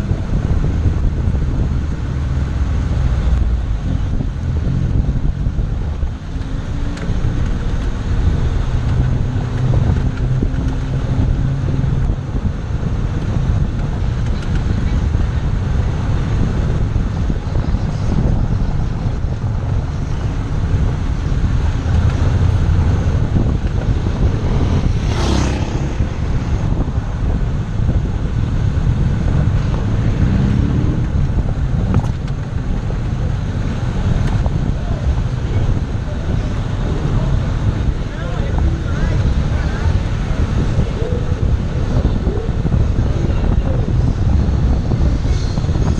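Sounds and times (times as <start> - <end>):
car engine humming: 0.0 - 45.9
wind buffeting microphone: 0.0 - 45.9.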